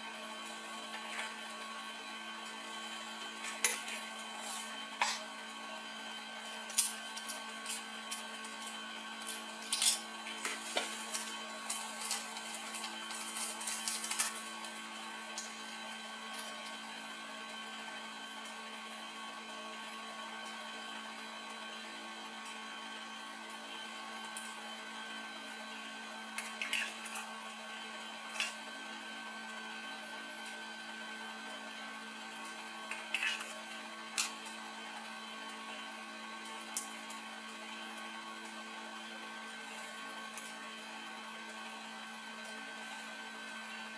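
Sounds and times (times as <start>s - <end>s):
steady electrical hum: 0.0s - 43.9s.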